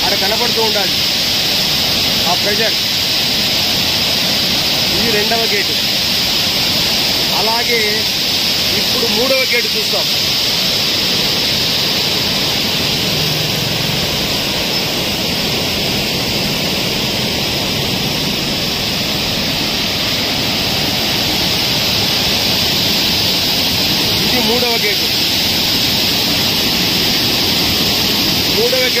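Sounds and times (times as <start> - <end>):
water rushing under dam gates: 0.0 - 29.0.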